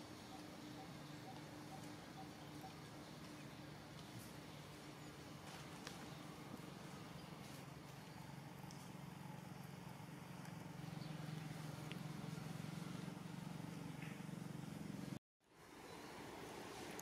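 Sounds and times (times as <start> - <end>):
low engine-like hum: 0.0 - 17.0.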